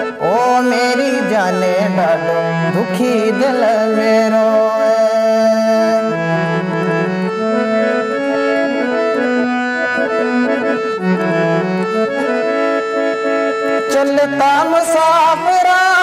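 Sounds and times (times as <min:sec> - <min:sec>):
harmonium melody: 0:00.0 - 0:16.0.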